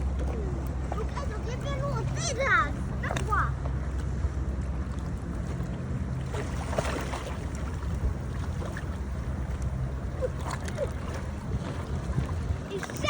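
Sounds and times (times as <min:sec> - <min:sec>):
motorboat engine rumbling: 0:00.0 - 0:13.0.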